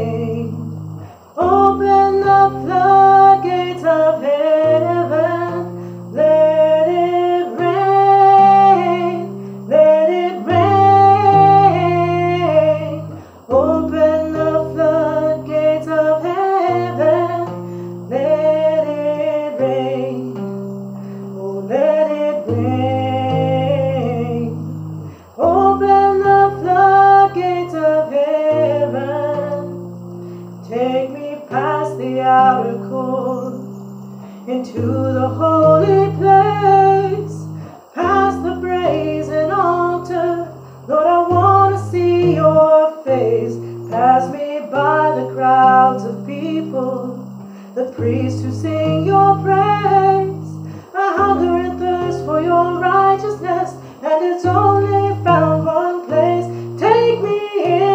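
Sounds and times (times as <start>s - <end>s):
instrumental worship music: 0.0s - 57.9s.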